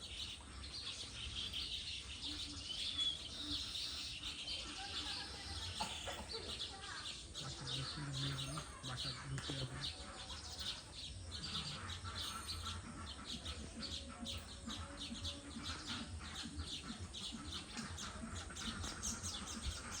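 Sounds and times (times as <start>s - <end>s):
weaver birds chirping: 0.0s - 20.0s.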